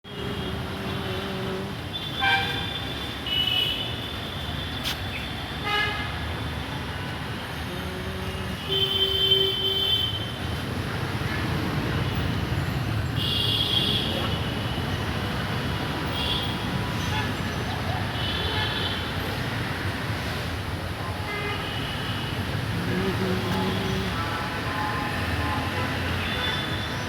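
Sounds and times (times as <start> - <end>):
road traffic rumbling: 0.0 - 27.0.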